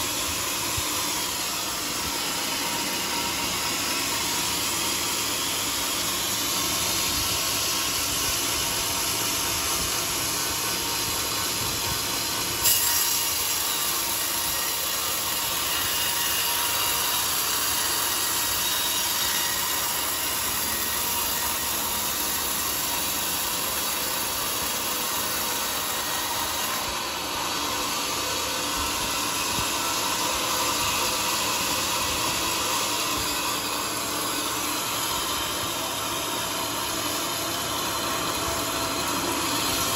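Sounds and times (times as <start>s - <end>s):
band saw blade cutting log: 0.0s - 39.9s.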